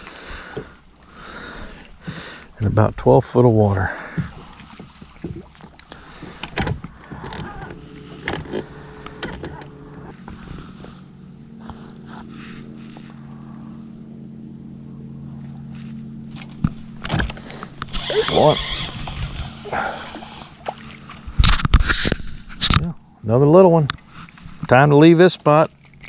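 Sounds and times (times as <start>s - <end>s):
electric trolling motor humming: 0.0s - 23.3s.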